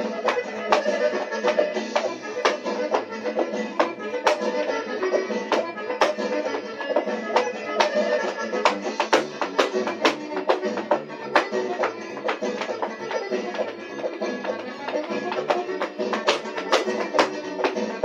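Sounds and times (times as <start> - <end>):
dance shoes stamping on tile: 0.0 - 18.0
folk dance music: 0.0 - 18.0.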